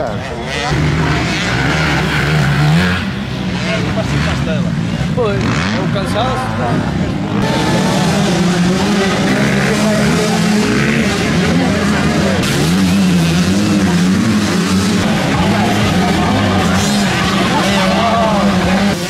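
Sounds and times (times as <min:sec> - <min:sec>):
motocross bike engines: 0:00.0 - 0:19.0.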